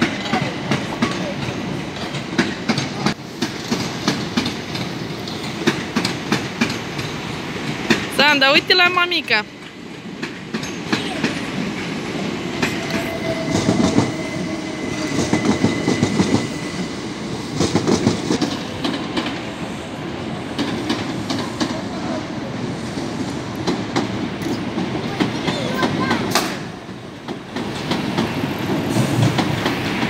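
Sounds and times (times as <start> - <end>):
train wheels clicking over rail joints: 0.0 - 8.6, 9.5 - 19.7, 20.5 - 22.0, 22.8 - 30.0
train rumble: 0.0 - 30.0.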